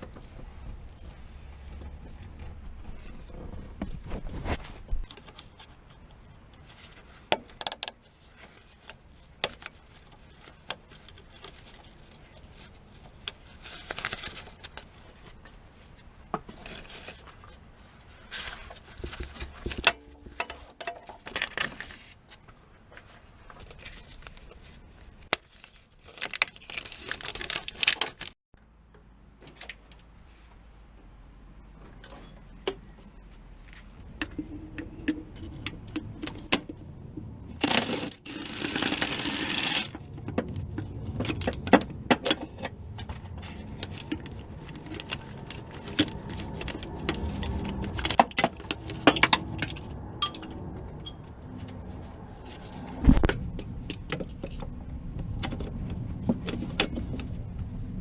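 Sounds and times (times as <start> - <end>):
rustling: 0.0 - 28.4, 31.6 - 58.0.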